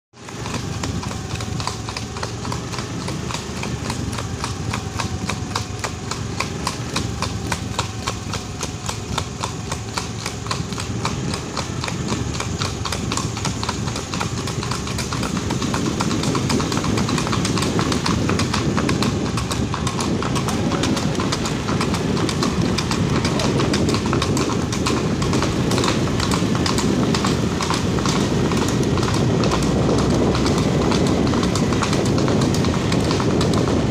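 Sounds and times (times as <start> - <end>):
hooves clip-clopping on road: 0.1 - 33.9.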